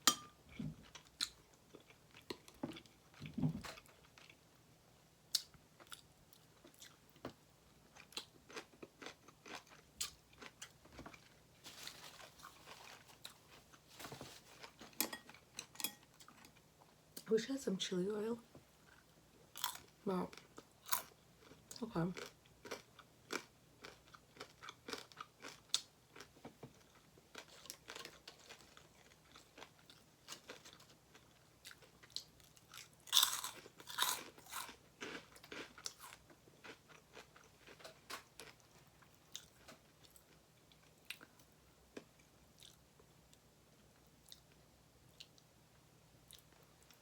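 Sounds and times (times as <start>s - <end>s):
chewing and crunching food: 0.5s - 4.6s, 5.3s - 17.3s, 18.8s - 45.6s, 46.2s - 47.0s.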